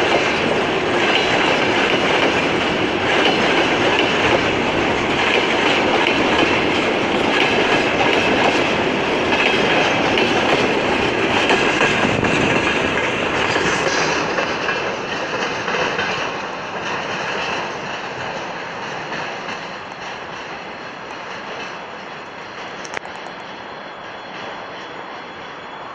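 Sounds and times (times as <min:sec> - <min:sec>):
freight train wheels clattering: 0:00.0 - 0:25.7.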